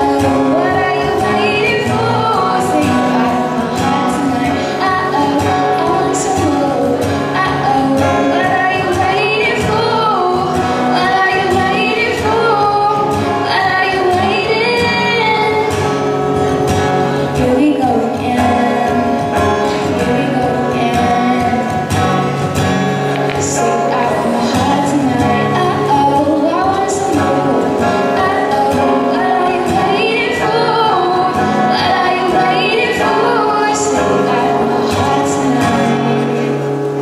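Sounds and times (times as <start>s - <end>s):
girl singing: 0.0s - 36.8s
acoustic guitars: 0.0s - 37.0s.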